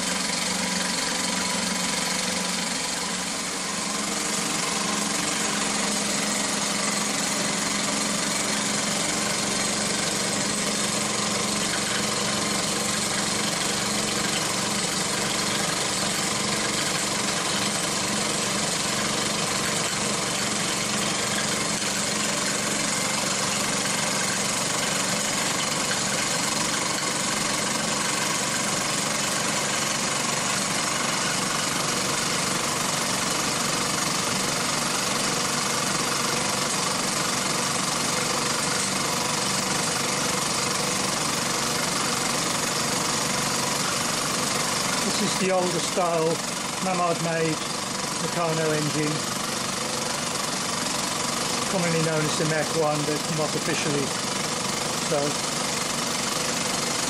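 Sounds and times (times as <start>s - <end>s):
toy steam engines hissing: 0.0s - 57.0s.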